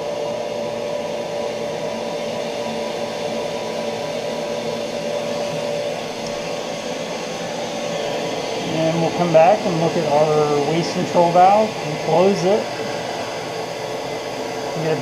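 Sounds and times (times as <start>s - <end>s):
high-pressure pump humming and whining: 0.0s - 15.0s.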